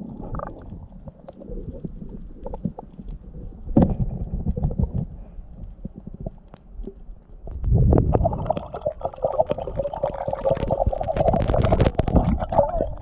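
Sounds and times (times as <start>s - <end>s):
underwater clicks and knocks: 0.2s - 8.7s, 10.4s - 12.6s.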